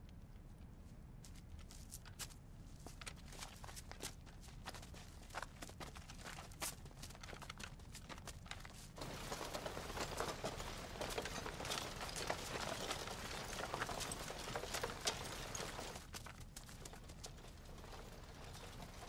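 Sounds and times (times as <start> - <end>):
footsteps of a group: 1.2 - 19.0
rustling through undergrowth: 1.2 - 19.0.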